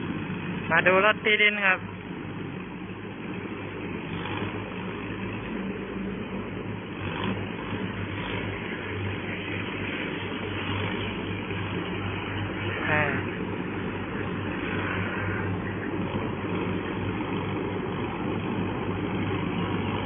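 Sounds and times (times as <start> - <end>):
machine churning wet soil: 0.0 - 20.0
tiller engine humming: 0.0 - 20.0.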